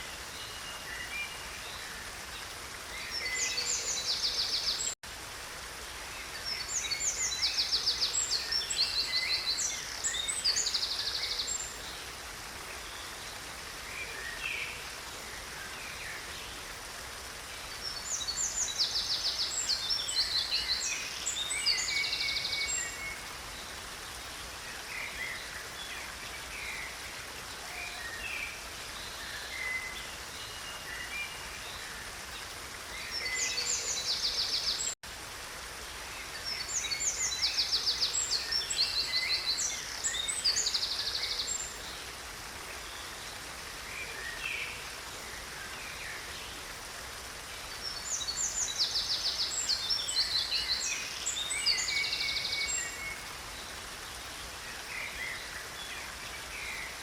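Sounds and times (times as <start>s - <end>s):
songbirds singing: 0.0s - 57.0s
stream running: 0.0s - 57.0s.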